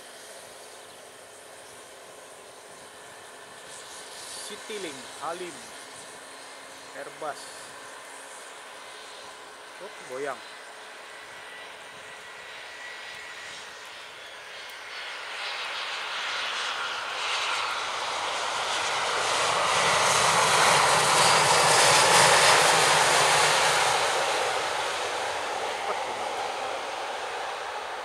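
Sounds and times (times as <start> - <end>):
jet engines landing: 0.0 - 28.0.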